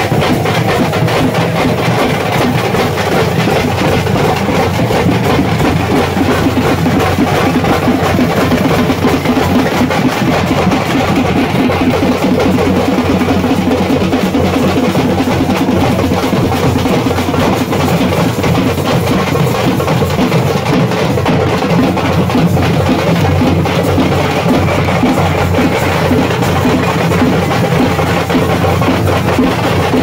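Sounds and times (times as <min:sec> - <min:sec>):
loud drum-driven music: 0:00.0 - 0:30.0.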